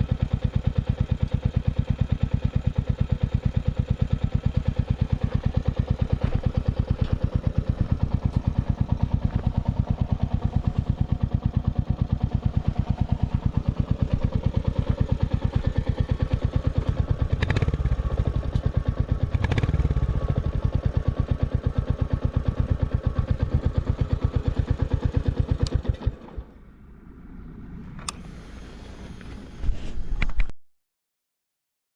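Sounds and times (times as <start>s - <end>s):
motorcycle engine idling: 0.0s - 26.7s.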